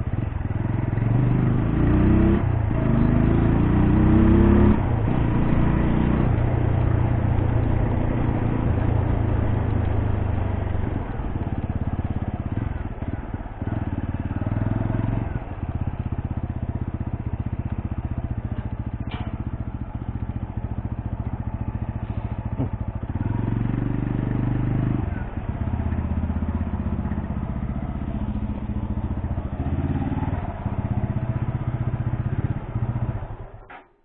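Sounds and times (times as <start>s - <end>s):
motorcycle engine deep exhaust beat: 0.0s - 33.3s.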